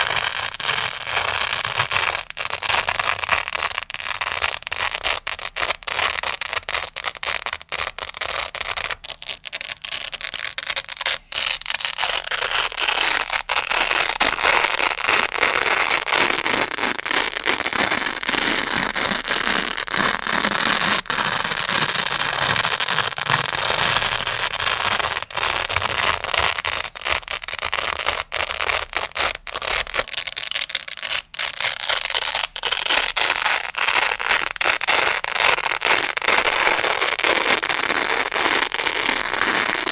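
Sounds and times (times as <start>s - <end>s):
velcro crackling and ripping: 0.0s - 39.9s.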